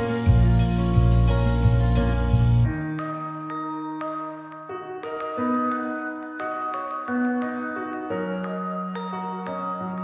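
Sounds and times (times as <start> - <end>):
gentle background music: 0.0 - 10.0.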